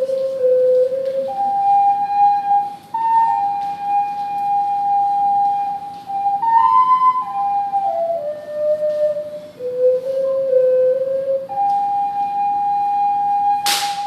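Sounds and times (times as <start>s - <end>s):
ocarina playing slow melody: 0.0s - 14.0s.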